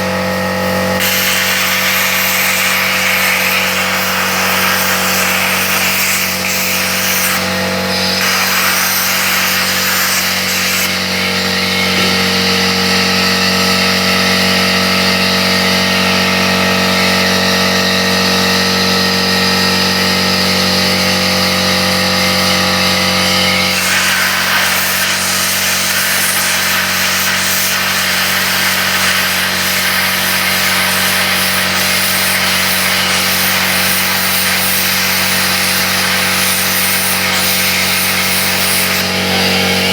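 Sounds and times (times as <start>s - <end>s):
plasma cutter hissing: 0.2s - 39.9s.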